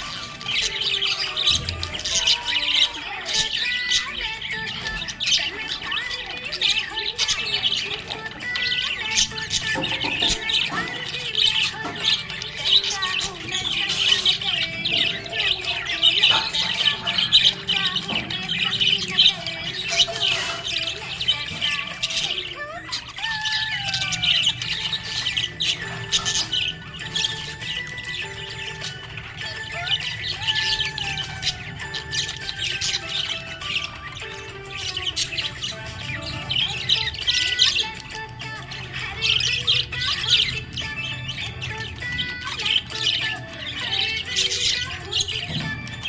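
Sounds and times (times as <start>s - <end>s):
budgerigars chirping and chattering: 0.0s - 46.0s.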